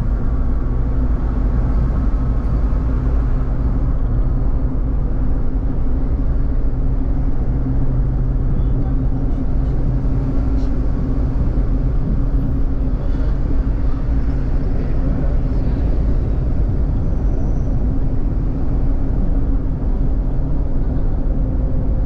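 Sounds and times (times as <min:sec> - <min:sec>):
car interior engine drone: 0:00.0 - 0:22.0.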